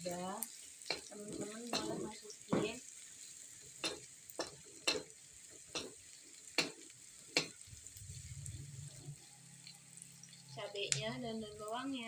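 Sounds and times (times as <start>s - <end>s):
faint sizzling in oil: 0.0s - 12.0s.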